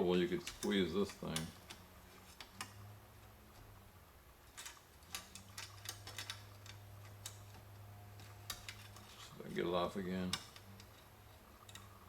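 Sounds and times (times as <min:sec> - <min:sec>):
steady low hum: 0:00.0 - 0:12.0
faint metal clicks and ticks: 0:00.1 - 0:03.8, 0:04.4 - 0:12.0.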